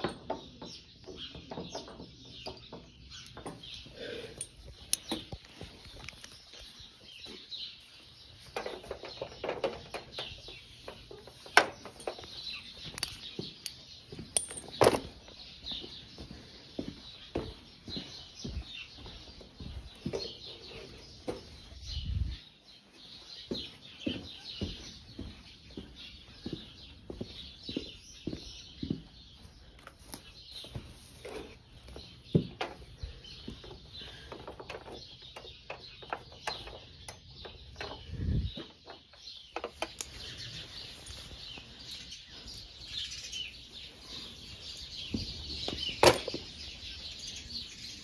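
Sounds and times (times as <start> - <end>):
birds chirping: 0.0 - 48.0
footsteps on barn floor: 3.6 - 34.6, 38.1 - 47.4.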